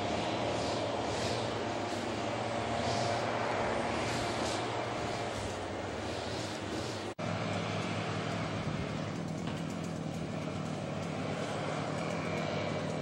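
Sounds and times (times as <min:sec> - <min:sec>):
outdoor rushing background noise: 0:00.0 - 0:13.0.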